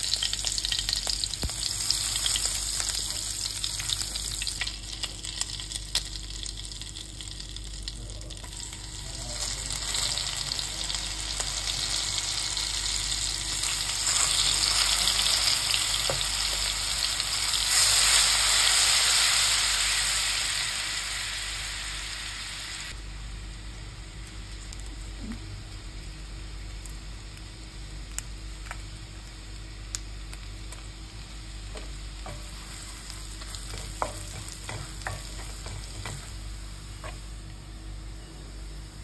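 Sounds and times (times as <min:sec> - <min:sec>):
garlic sizzling in hot oil: 0:00.0 - 0:23.0, 0:25.8 - 0:39.0.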